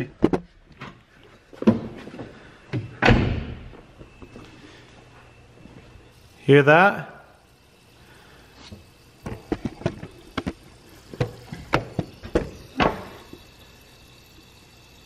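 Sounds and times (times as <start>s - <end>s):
fuel leaking hiss: 1.0s - 15.0s.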